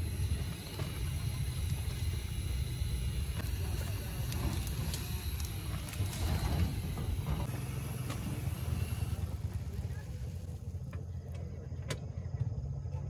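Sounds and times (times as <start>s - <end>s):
camping stove burning: 0.0s - 11.9s.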